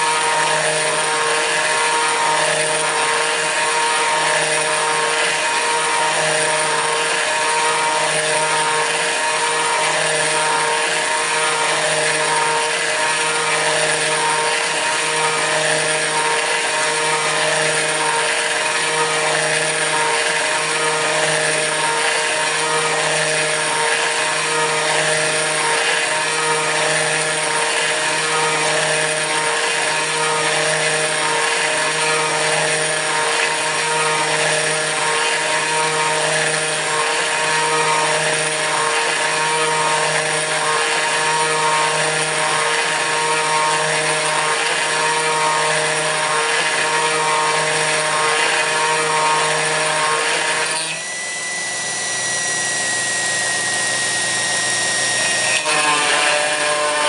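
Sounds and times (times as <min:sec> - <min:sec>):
router spindle milling metal: 0:00.0 - 0:57.0.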